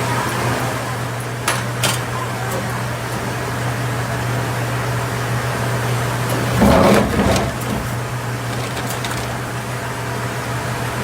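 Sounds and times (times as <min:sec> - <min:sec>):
workshop machinery hum: 0:00.0 - 0:11.0.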